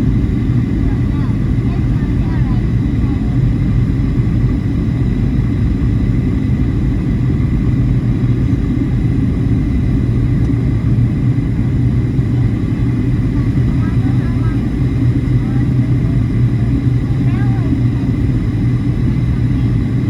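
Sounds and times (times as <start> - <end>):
airliner cabin jet engine drone: 0.0 - 20.0.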